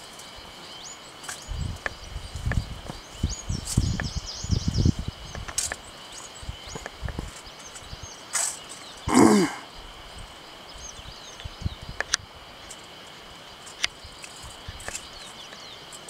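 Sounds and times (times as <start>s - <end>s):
birds chirping: 0.0s - 16.0s
high insect drone: 0.0s - 16.0s.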